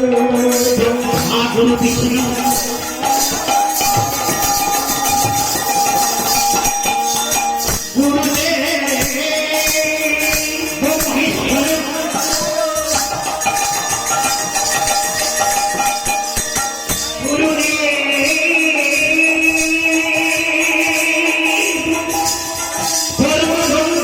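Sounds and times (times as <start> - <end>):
jingling tambourine-like percussion: 0.0 - 24.0.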